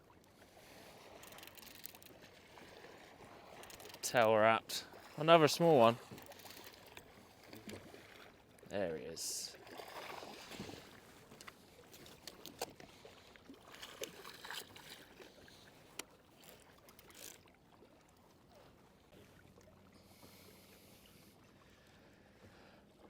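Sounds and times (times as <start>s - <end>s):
water splashes and drips: 0.0s - 20.4s.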